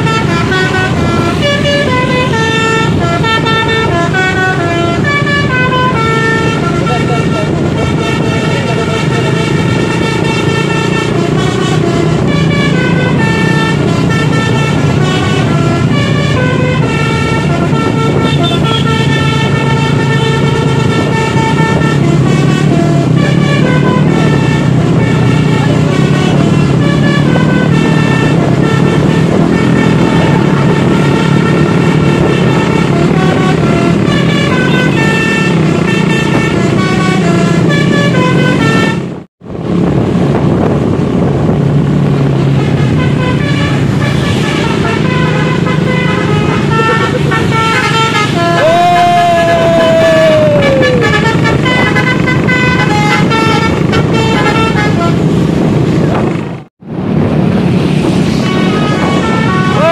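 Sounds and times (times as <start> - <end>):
musical air horn melody: 0.0 - 39.2, 42.5 - 55.6, 58.3 - 59.9
engines droning: 0.0 - 59.9.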